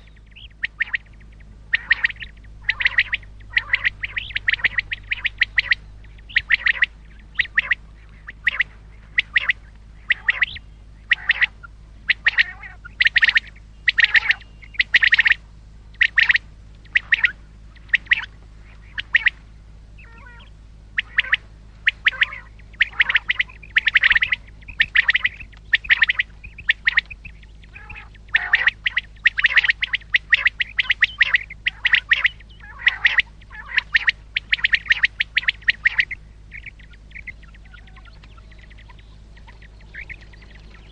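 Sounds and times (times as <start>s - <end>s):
quail calling: 0.0s - 40.9s.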